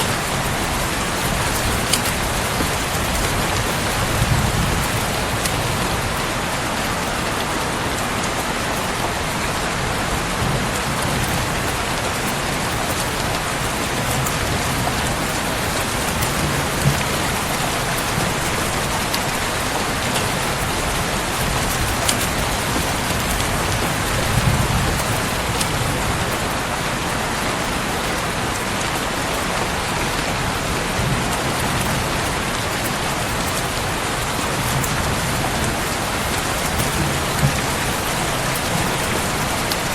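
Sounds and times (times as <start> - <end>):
dense rain falling: 0.0 - 39.9.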